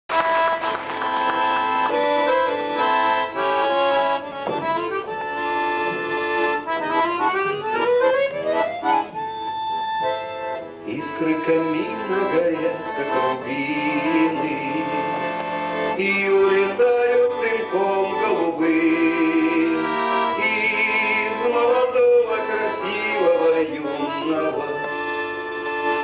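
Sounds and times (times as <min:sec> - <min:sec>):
accordion playing: 0:00.1 - 0:26.0.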